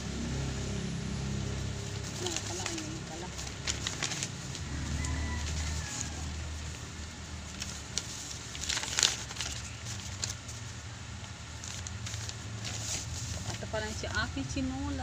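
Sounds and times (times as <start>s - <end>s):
steady low hum: 0.0s - 15.0s
paper sheets rustling: 1.7s - 14.2s.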